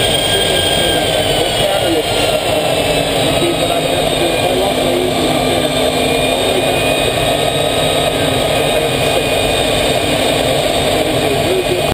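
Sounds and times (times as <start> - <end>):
thin constant whine: 0.0 - 11.6
small aircraft engine droning: 0.0 - 11.9.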